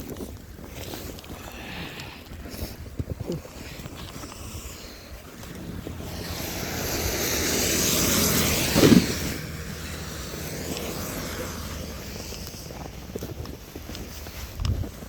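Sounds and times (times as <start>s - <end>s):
vehicle tyres hissing on snow: 0.7s - 15.0s.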